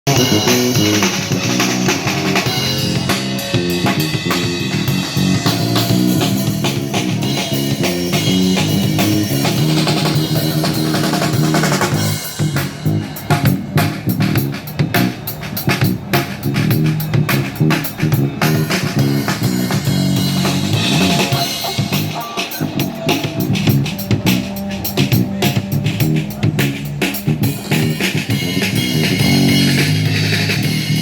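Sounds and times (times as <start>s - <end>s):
band playing live: 0.0s - 31.0s
bass line: 0.0s - 31.0s
drum kit: 0.0s - 31.0s.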